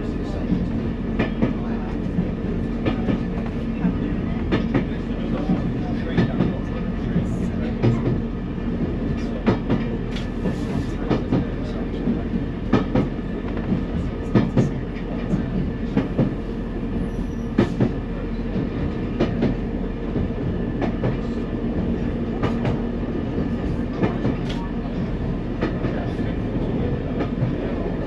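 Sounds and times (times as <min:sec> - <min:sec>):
railcar low hum: 0:00.0 - 0:28.0.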